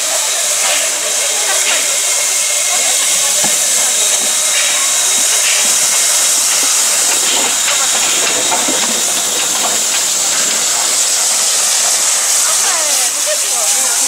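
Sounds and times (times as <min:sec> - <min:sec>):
steam locomotive venting steam: 0:00.0 - 0:14.0.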